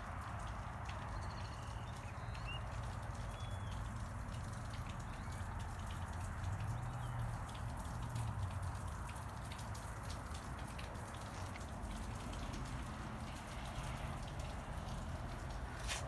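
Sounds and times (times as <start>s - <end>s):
ticking of falling precipitation: 0.1s - 16.0s.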